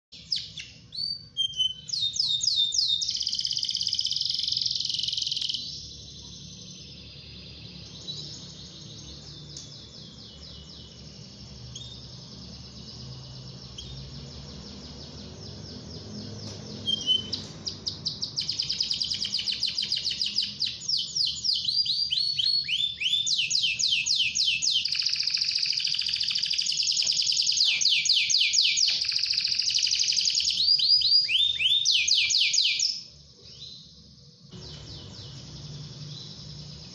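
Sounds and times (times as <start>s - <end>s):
canary singing trills: 0.2s - 36.9s.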